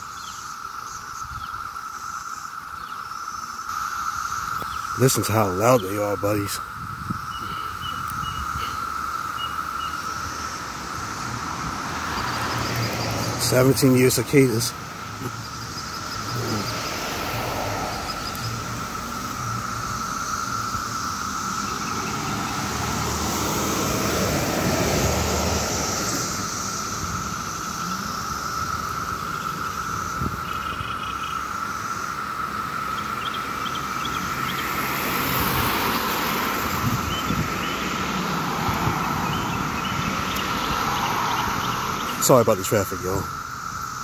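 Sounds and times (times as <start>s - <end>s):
cicadas buzzing: 0.0s - 44.0s
passing cars: 0.0s - 44.0s.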